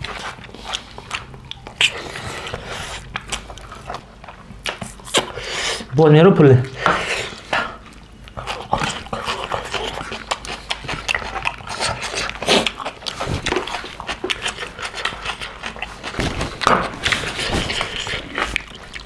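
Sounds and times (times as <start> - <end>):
chewing and lip-smacking: 0.0 - 5.4, 7.4 - 19.0.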